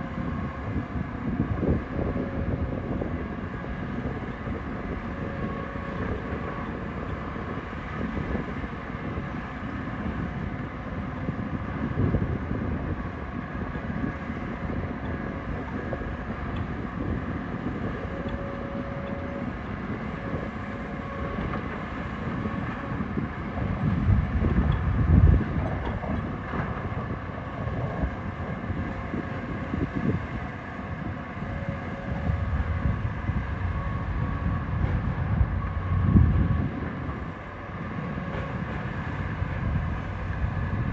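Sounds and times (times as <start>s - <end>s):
diesel machinery engine rumble: 0.0s - 40.9s.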